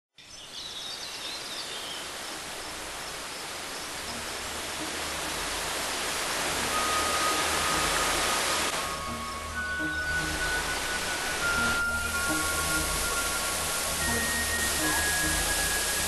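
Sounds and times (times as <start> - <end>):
waterfall rushing: 1.3 - 16.0.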